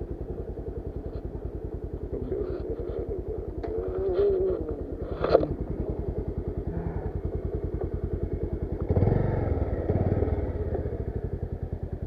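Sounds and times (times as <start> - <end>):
motorcycle engine chugging: 0.0 - 12.0.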